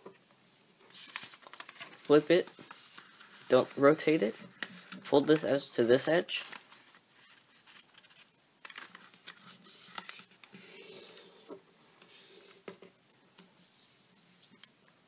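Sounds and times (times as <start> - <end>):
paper rustling and being folded: 0.0 - 14.8.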